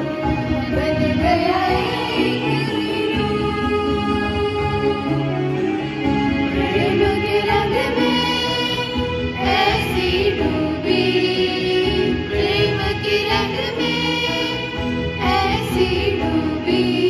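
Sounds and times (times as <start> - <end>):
girls singing devotional song: 0.7 - 5.2, 6.6 - 17.0.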